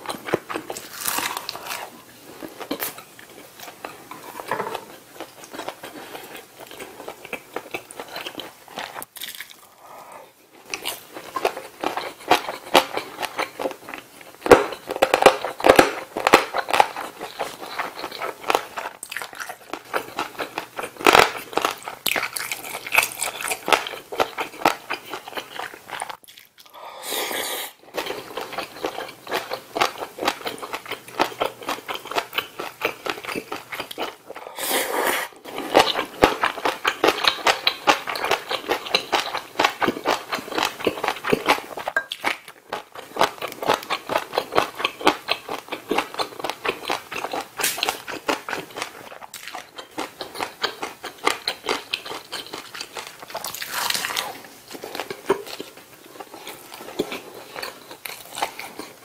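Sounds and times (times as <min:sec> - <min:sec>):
wet chewing and crunching: 0:00.0 - 0:09.8, 0:10.6 - 0:26.8, 0:27.8 - 0:34.6, 0:35.4 - 0:59.0.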